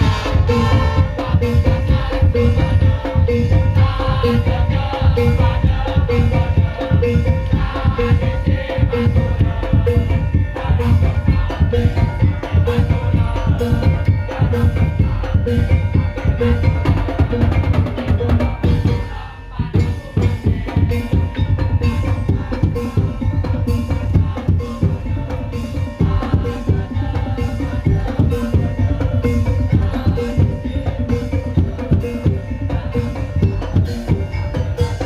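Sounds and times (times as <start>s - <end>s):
heavy bass drums: 0.0s - 35.0s
percussion ensemble playing: 0.0s - 35.0s
tuned percussion notes: 0.0s - 35.0s.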